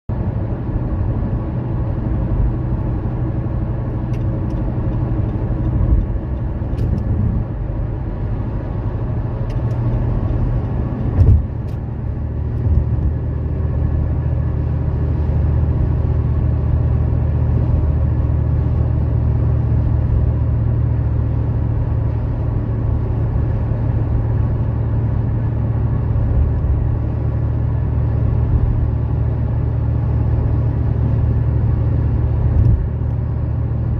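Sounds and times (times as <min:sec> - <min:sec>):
car engine and road rumble: 0:00.1 - 0:33.9.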